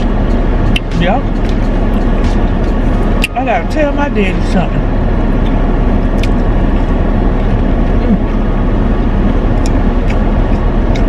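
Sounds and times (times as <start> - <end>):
car cabin rumble and hiss: 0.0 - 11.0.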